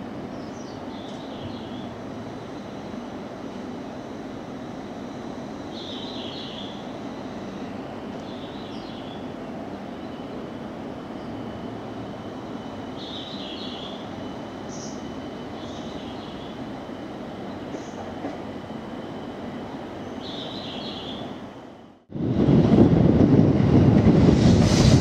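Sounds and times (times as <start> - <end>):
train running hum: 0.0 - 25.0.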